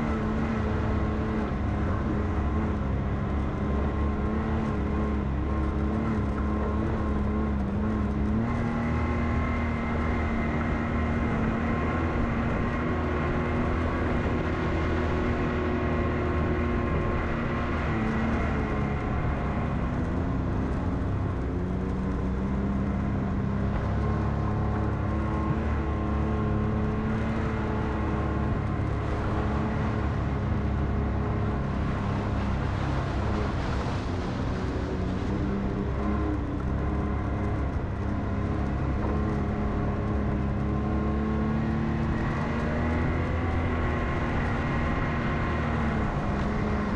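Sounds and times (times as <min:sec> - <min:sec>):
utility vehicle engine running: 0:00.0 - 0:46.9.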